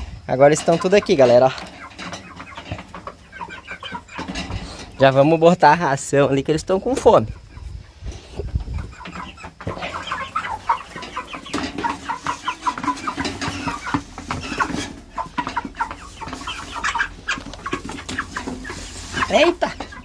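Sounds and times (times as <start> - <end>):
chickens clucking and calling: 0.0 - 20.0.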